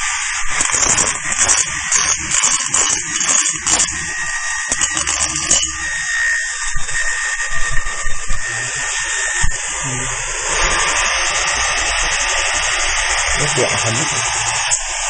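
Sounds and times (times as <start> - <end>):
machine tool high buzzing hiss: 0.0 - 15.0.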